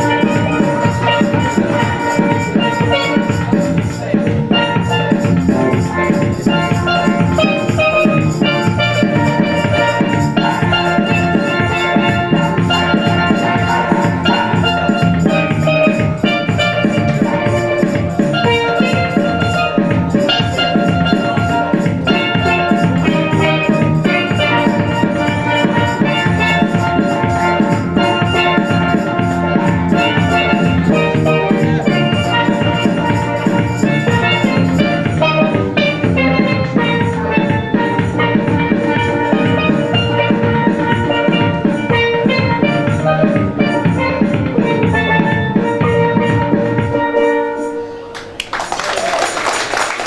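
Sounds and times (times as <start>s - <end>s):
music with drums: 0.0s - 48.4s.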